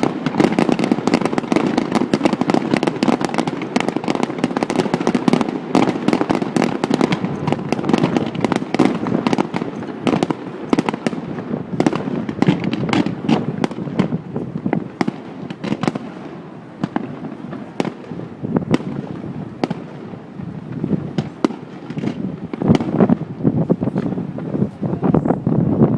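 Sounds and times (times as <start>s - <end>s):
fireworks bangs and crackles: 0.0s - 25.9s.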